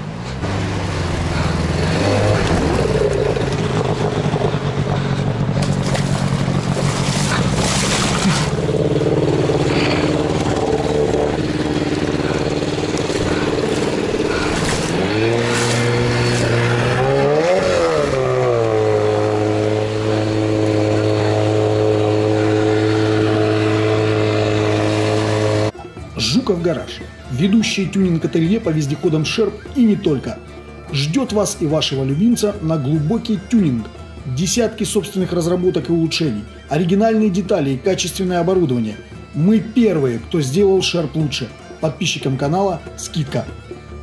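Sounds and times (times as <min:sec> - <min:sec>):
engine revving under load: 0:00.0 - 0:44.0.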